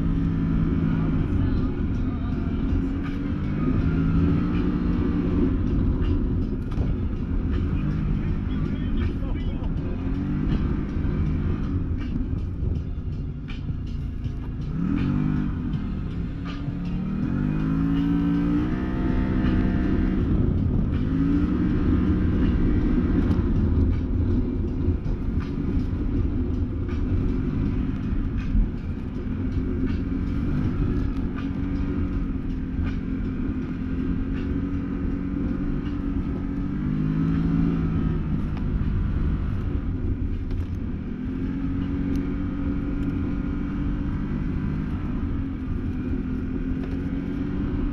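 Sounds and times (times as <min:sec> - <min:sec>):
engine revving under load: 0:00.0 - 0:47.9.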